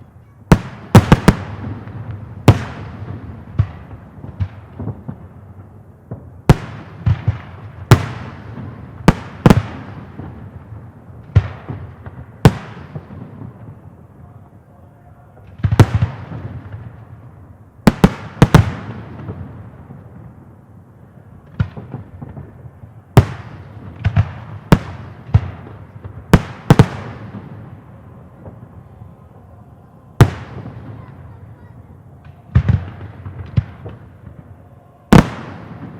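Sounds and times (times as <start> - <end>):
fireworks bangs with echoing rumble: 0.0 - 35.9.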